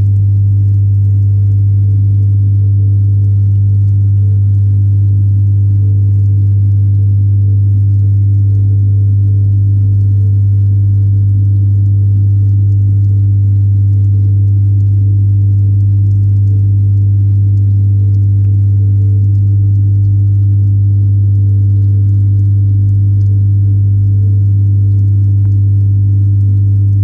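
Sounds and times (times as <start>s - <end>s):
deep electrical hum: 0.0s - 27.0s.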